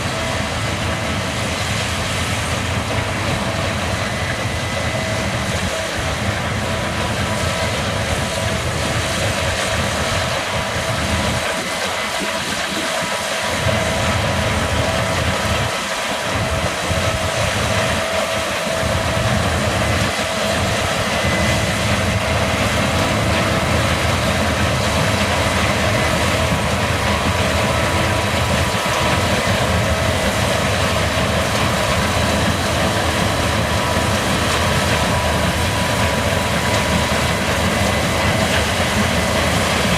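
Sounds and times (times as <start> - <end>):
combine harvester engine drone: 0.0 - 39.9
high-pitched machine whine: 0.0 - 39.9.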